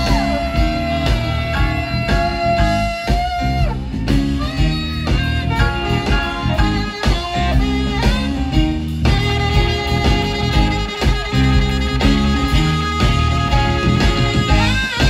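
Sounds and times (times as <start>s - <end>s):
electric guitar: 0.0s - 15.0s
saxophone bluesy melody: 0.0s - 15.0s
steady drum beat: 0.0s - 15.0s.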